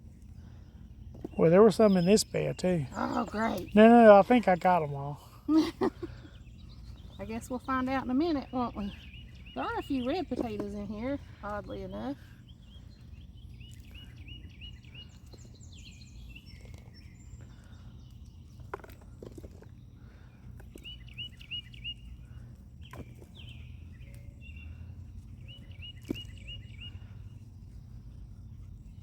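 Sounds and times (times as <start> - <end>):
low outdoor rumble: 0.0 - 29.0
songbird chirping: 0.0 - 29.0.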